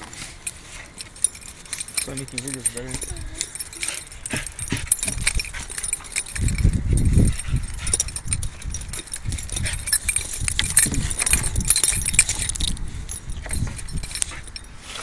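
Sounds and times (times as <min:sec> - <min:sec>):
collar tags jingling: 0:00.0 - 0:15.0.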